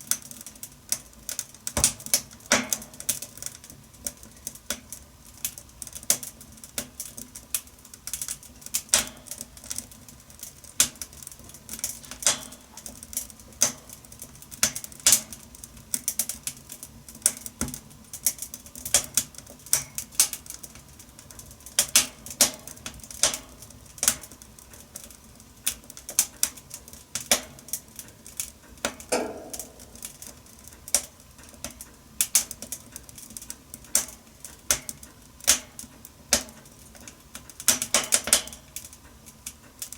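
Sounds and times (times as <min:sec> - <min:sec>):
wood fire crackling in a stove: 0:00.0 - 0:39.9.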